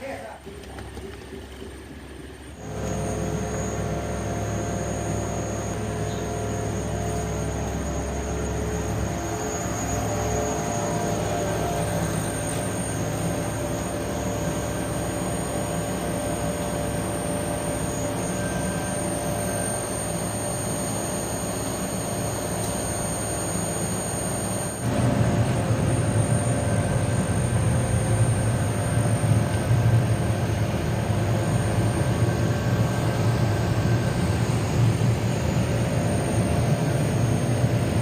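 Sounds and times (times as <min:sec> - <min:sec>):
deep machine rumble: 0:00.0 - 0:23.8, 0:24.8 - 0:38.0
factory machinery humming: 0:00.0 - 0:38.0.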